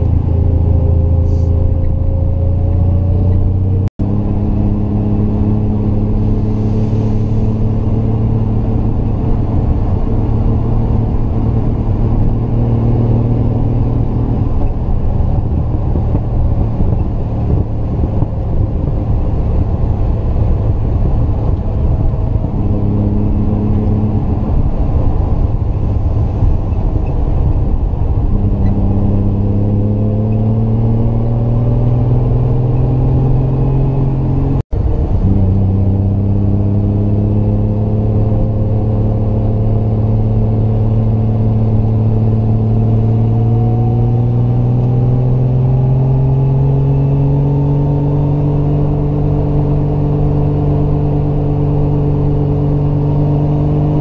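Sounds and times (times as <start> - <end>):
car engine pulling uphill: 0.0 - 54.0.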